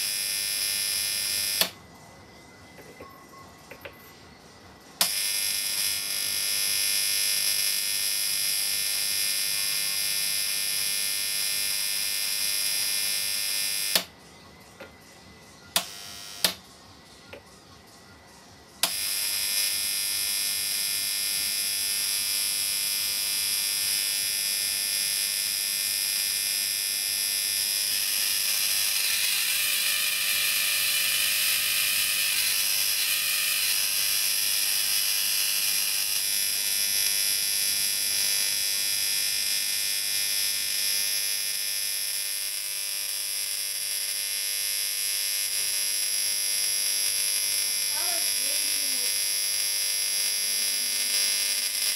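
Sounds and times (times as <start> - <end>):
electric buzz with crackle: 0.0 - 1.8, 5.0 - 14.1, 15.8 - 16.6, 18.8 - 51.9.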